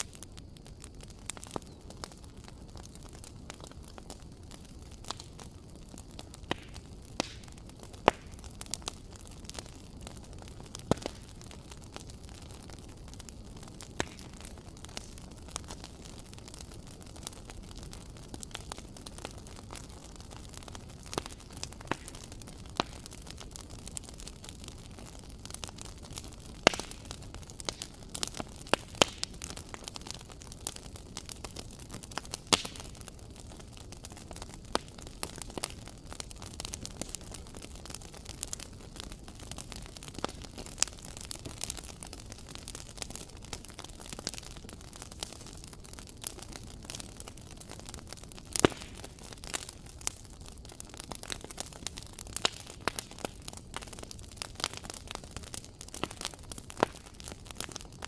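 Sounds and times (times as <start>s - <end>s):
fire crackling: 0.0s - 58.0s
loud fire pops: 0.0s - 58.0s.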